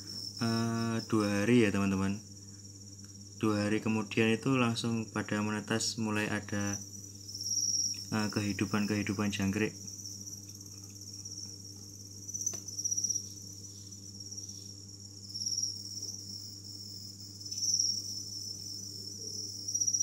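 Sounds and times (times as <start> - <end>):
crickets chirping: 0.0 - 20.0
low steady hum: 0.0 - 20.0.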